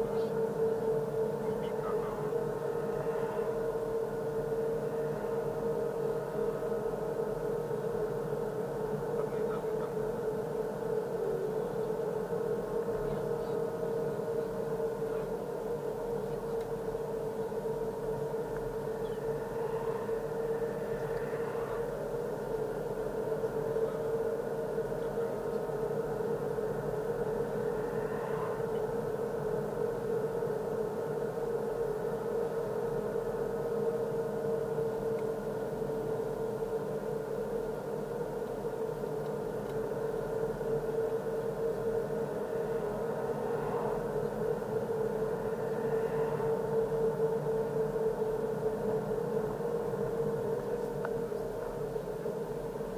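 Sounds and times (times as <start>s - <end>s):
constant cabin hum: 0.0s - 52.9s.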